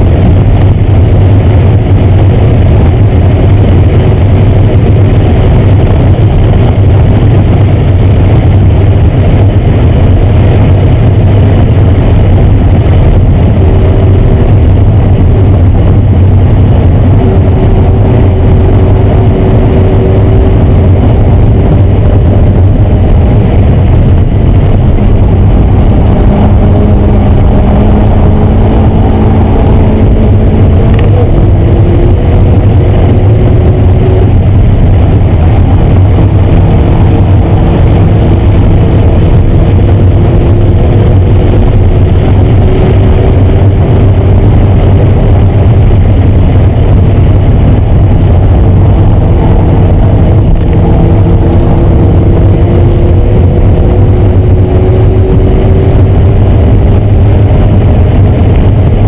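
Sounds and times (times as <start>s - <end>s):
car engine at high revs: 0.0s - 59.0s
road and wind noise: 0.0s - 59.0s.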